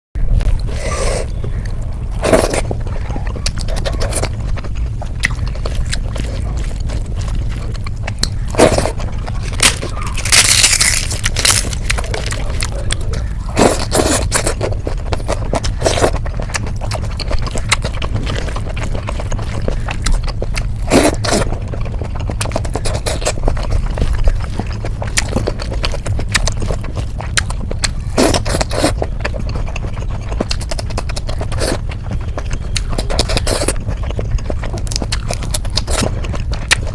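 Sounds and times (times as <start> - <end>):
steady low hum: 0.2 - 36.9.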